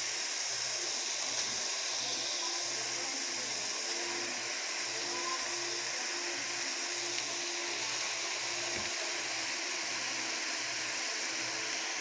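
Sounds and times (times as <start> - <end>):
meat and vegetables sizzling: 0.0 - 12.0.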